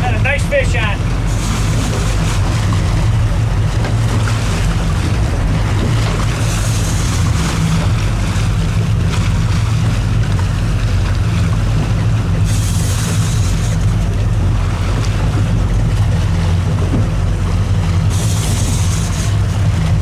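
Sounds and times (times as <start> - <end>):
boat engine humming: 0.0 - 20.0
water washing against boat: 0.0 - 20.0.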